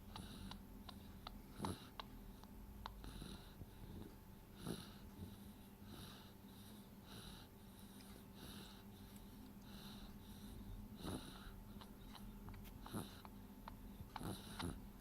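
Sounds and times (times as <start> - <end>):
faint wheezy snoring: 0.0 - 15.0.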